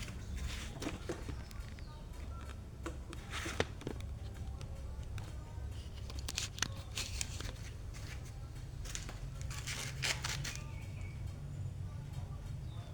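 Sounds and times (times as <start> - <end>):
scraping and rustling: 0.0 - 4.6, 5.2 - 11.1
steady low hum: 0.0 - 12.9.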